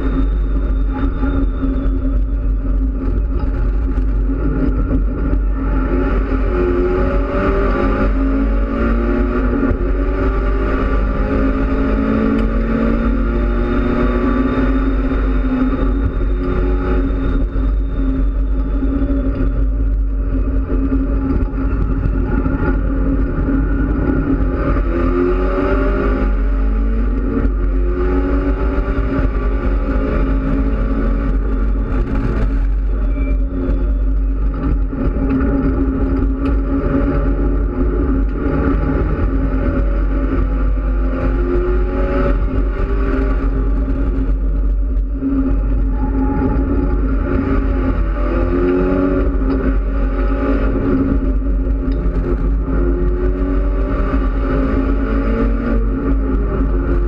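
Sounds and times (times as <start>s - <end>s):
race car engine accelerating: 0.0s - 57.0s
steady low rumble: 0.0s - 57.0s.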